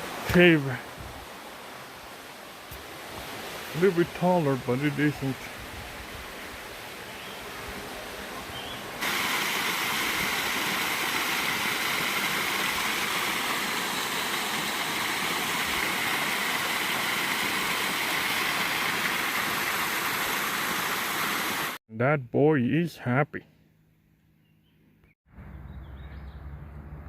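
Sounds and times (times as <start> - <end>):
water rushing in creek cascade: 0.0 - 21.8.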